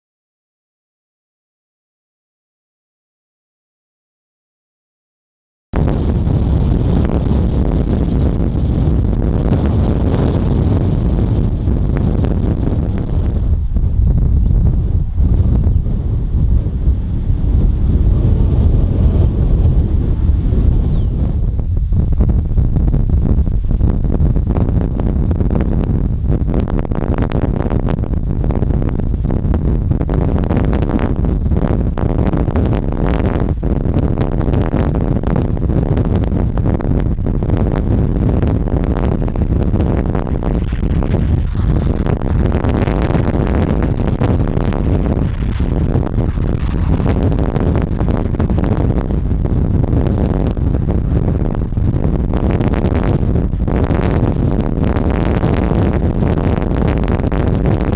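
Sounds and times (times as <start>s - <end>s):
strong wind on microphone: 5.8s - 57.9s.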